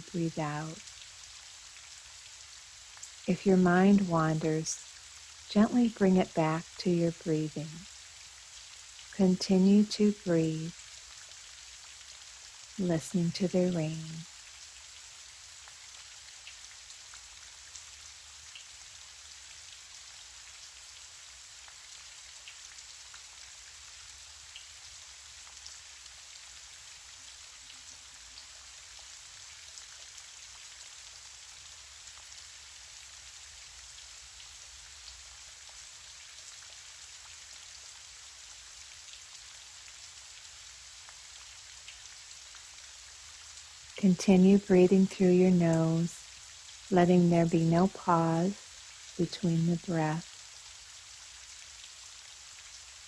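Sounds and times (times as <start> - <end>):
gentle rain falling: 0.0 - 53.0.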